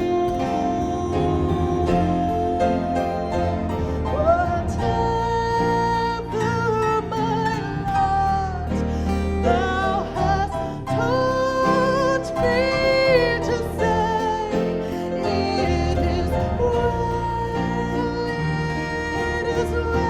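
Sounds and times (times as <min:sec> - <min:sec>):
instrumental accompaniment: 0:00.0 - 0:20.0
person singing worship music: 0:00.0 - 0:20.0.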